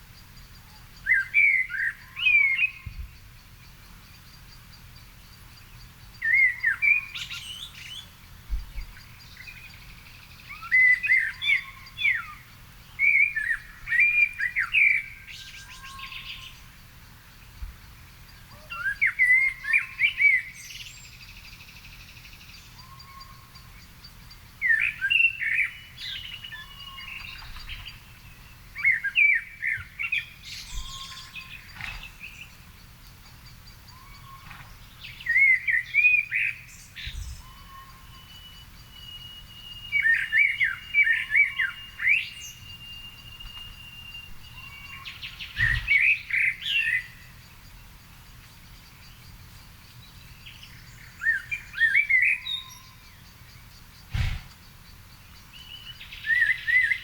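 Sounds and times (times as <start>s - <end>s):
faint bird chirps: 0.3s - 57.0s
songbird warbling: 8.8s - 16.7s, 18.3s - 57.0s.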